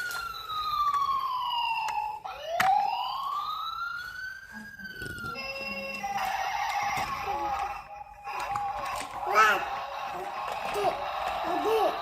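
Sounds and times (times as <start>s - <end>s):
toy siren wailing: 0.0s - 12.0s.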